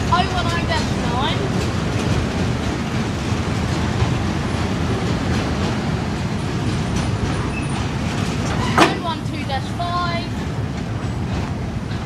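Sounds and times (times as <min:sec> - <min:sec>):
steel train wheels rolling on rails: 0:00.0 - 0:12.0
wheels clicking over rail joints: 0:00.0 - 0:12.0.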